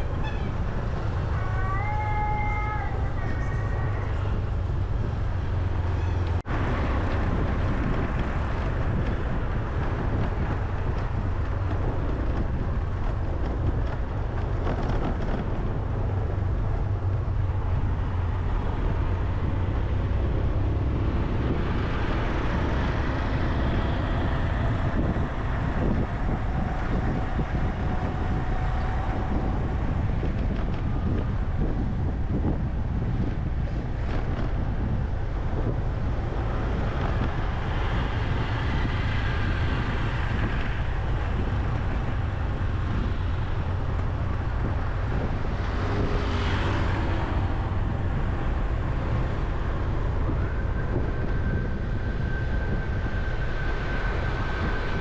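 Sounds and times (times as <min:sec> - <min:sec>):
road traffic: 0:00.0 - 0:55.0
wind buffeting microphone: 0:00.0 - 0:55.0.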